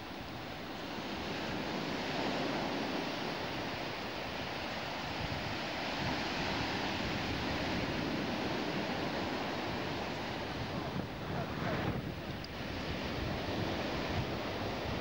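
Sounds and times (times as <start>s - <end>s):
waves breaking on shore: 0.0s - 15.0s.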